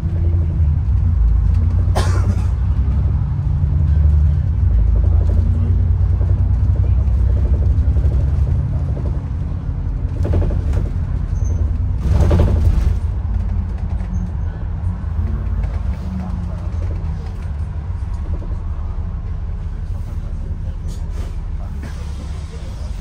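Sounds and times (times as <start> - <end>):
bus creaking: 0.0 - 23.0
bus engine and road rumble: 0.0 - 23.0.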